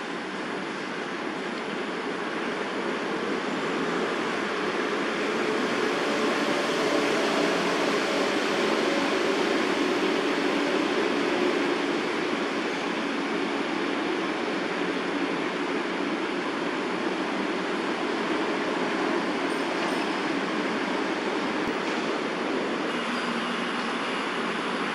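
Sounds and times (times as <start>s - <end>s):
distant city traffic rumble: 0.0s - 24.9s.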